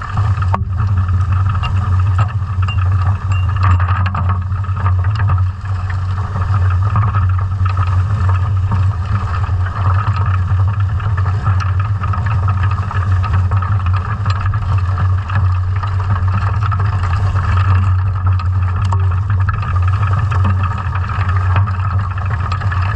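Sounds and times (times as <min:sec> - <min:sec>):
low underwater drone: 0:00.0 - 0:22.9
rushing water noise: 0:00.0 - 0:22.9.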